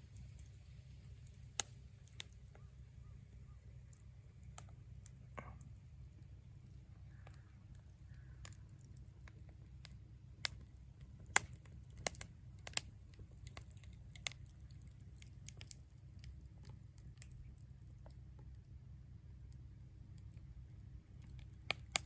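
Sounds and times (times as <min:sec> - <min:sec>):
wood fire crackling: 0:00.0 - 0:02.6, 0:03.7 - 0:22.0
low steady rumble: 0:00.0 - 0:22.0.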